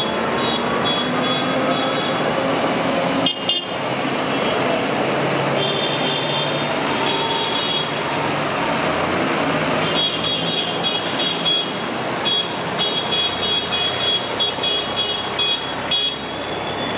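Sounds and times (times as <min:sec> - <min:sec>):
tractor diesel engines running: 0:00.0 - 0:16.9.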